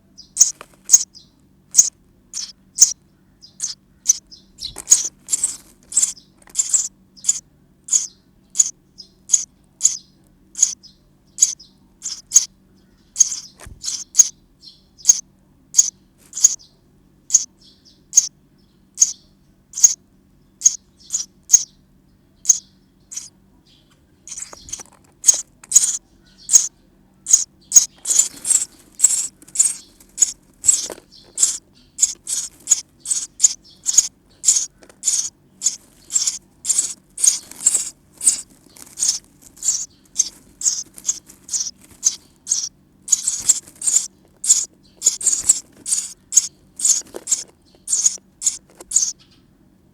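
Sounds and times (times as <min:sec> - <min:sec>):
nestlings chirping: 0:00.1 - 0:21.8, 0:22.4 - 0:49.5.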